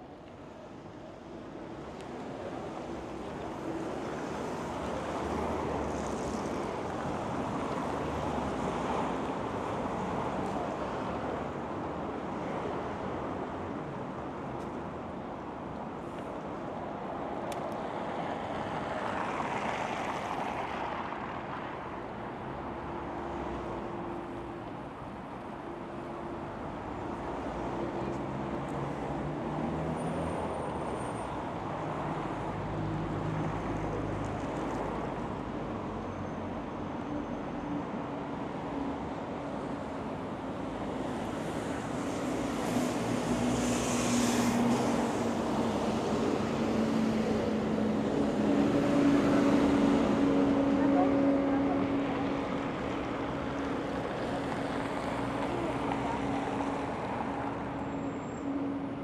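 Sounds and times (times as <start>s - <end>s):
cars passing on a road: 0.0s - 59.0s.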